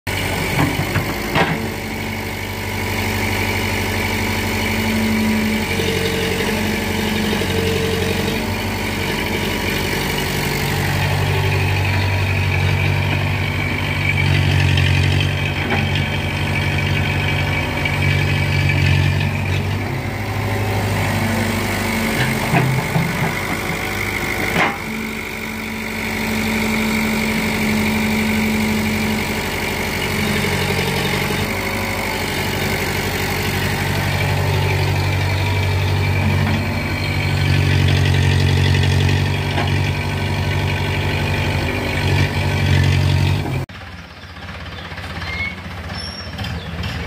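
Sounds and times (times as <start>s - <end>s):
excavator diesel engine: 0.0s - 47.0s.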